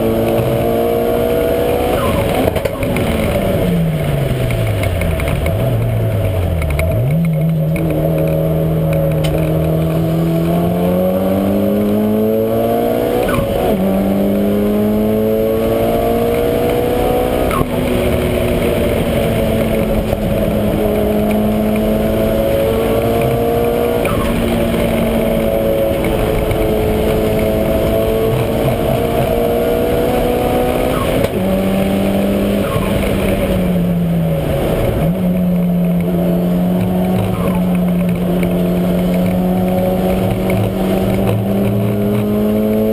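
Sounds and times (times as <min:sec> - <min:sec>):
car engine accelerating: 0:00.0 - 0:42.9
gear changes: 0:00.0 - 0:42.9.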